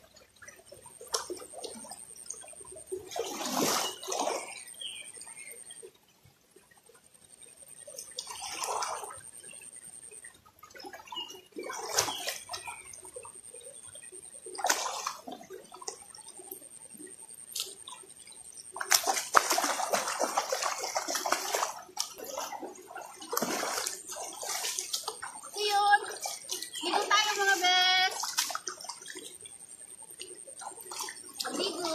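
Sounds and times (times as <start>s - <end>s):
water splashing: 0.0s - 5.9s, 7.6s - 31.9s.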